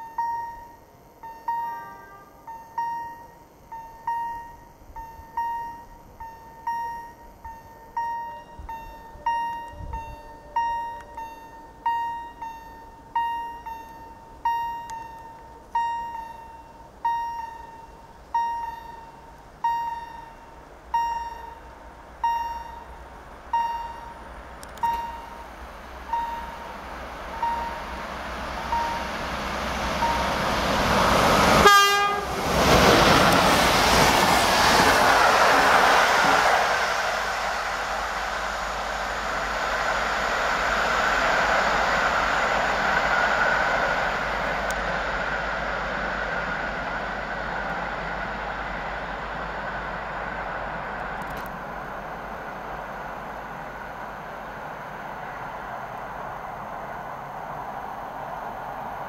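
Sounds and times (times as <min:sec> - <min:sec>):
crossing warning bell dinging: 0:00.0 - 0:59.0
train rushing past: 0:00.0 - 0:59.0.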